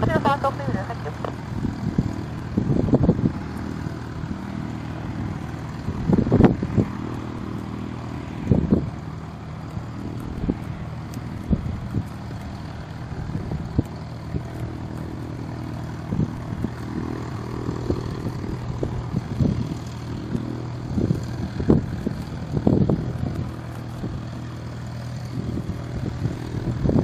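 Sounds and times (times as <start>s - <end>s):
distant propeller aircraft engine: 0.0s - 27.0s
wind rumbling on microphone: 0.0s - 27.0s.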